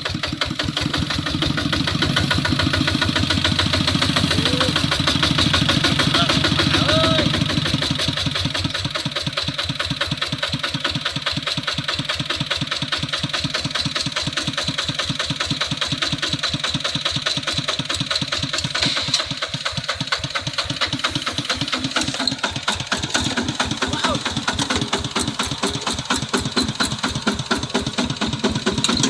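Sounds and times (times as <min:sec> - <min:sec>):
hand tractor diesel engine chugging: 0:00.0 - 0:29.0.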